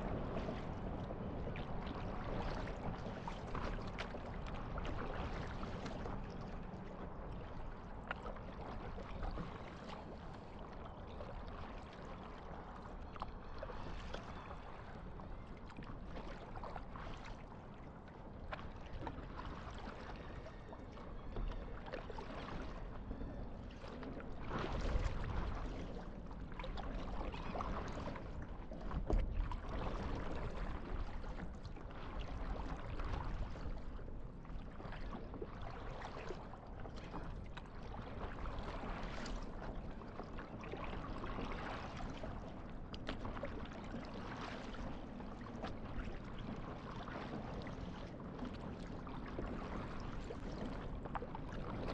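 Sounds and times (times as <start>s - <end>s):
water lapping against paddleboard: 0.0s - 23.0s, 23.6s - 51.9s.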